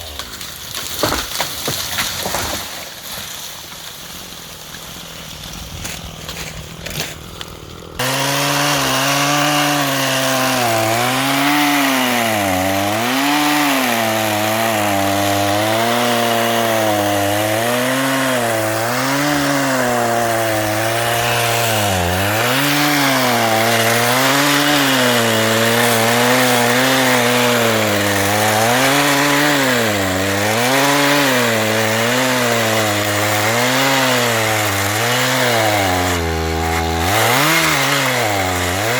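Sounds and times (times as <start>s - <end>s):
chainsaw cutting through logs: 0.0s - 38.9s.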